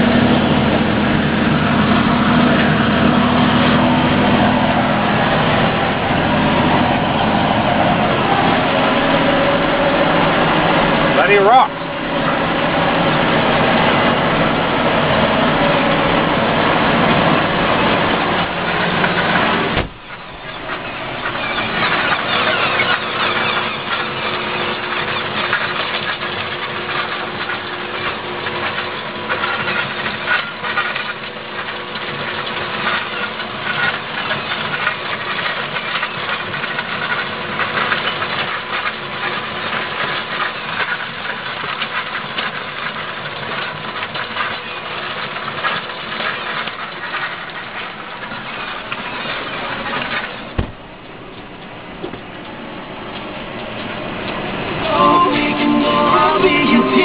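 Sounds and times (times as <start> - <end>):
busy rattle: 0.0 - 57.0
tractor diesel engine under load: 0.0 - 57.0.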